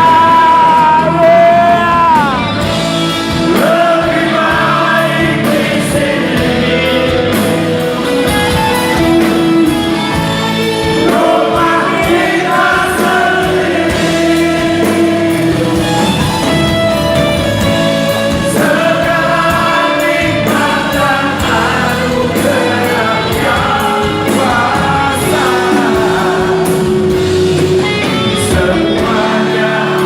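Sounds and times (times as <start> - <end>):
live rock band: 0.0 - 30.0.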